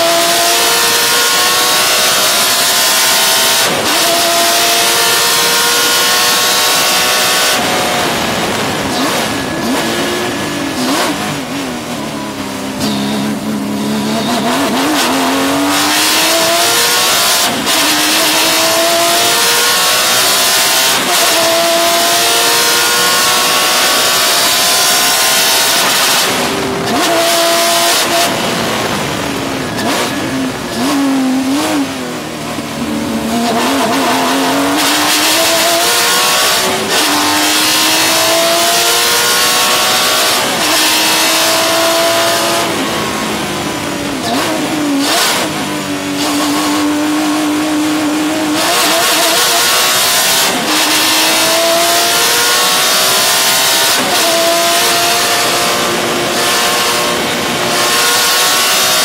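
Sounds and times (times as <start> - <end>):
racing engine pulling through gears: 0.0 - 59.0.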